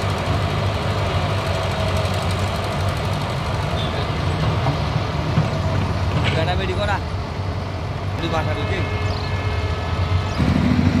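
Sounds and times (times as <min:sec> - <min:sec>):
diesel engines rumbling: 0:00.0 - 0:11.0.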